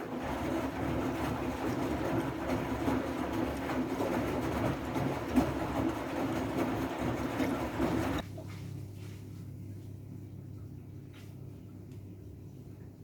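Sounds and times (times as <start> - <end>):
washing machine hum and rumble: 0.0 - 13.0.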